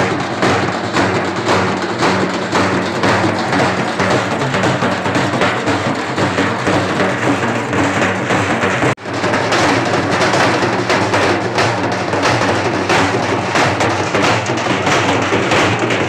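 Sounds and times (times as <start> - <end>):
frame drums beaten fast: 0.0 - 16.0.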